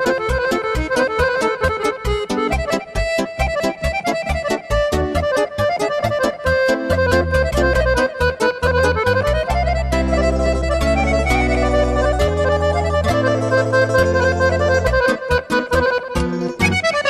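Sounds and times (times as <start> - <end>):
accordion melody: 0.0 - 17.0
heavy bass: 0.0 - 17.0
keyboard beat: 0.0 - 17.0.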